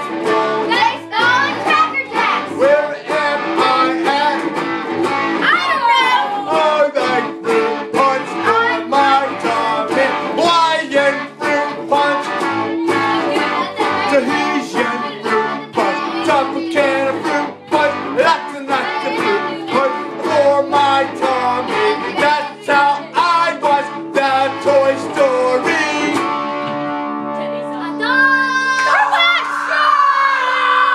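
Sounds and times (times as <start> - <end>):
person singing: 0.0 - 4.7, 5.4 - 26.3
plucked guitar music: 0.0 - 28.8.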